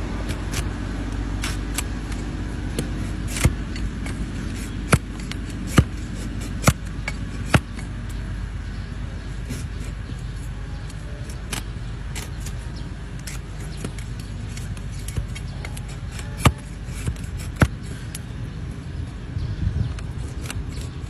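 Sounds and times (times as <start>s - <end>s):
blade cutting hoof horn: 0.0s - 8.4s, 9.3s - 18.4s, 19.9s - 21.0s.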